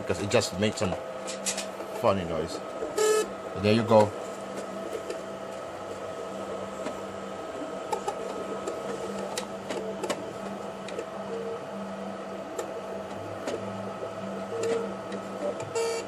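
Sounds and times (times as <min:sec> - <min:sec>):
small motorized device humming: 0:00.0 - 0:16.0.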